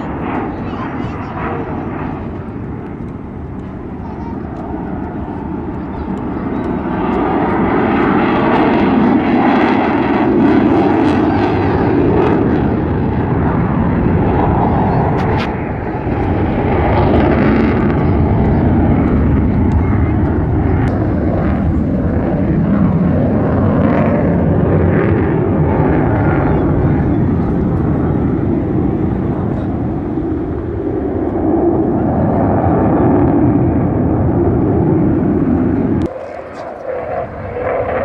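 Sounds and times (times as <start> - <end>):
fighter jet engine overhead: 0.0 - 38.0.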